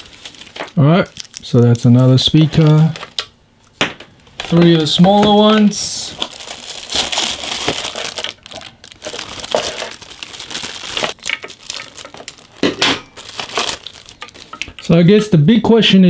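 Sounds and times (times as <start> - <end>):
plastic bags crinkling: 0.0 - 3.3, 4.3 - 14.9.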